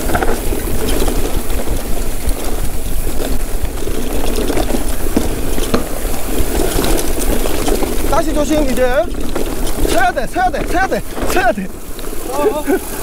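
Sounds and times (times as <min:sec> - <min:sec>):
bike knocking: 0:00.0 - 0:13.0
tyres rolling over dirt and rocks: 0:00.0 - 0:13.0.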